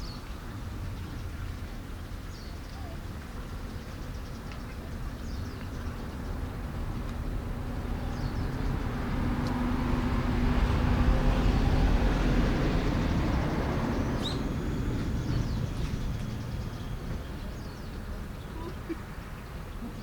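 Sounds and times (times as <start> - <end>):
vehicle engine and tyre rumble: 0.0 - 20.0.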